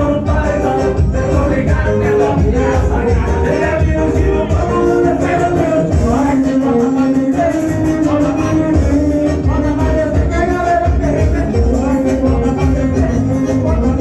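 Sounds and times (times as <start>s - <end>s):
heavy pulsing bass beat: 0.0s - 14.0s
person singing: 0.0s - 14.0s.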